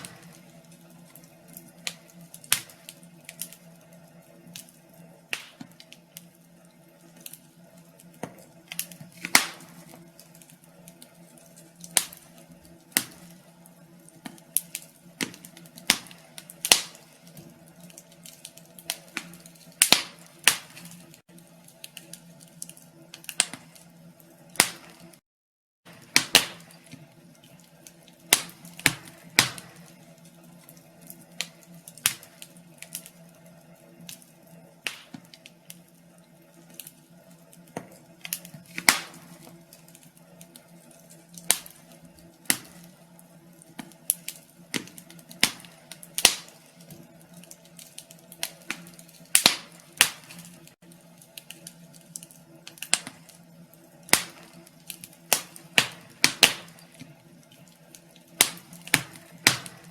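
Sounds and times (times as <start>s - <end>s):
wood fire crackling: 0.0s - 25.2s, 25.9s - 59.9s.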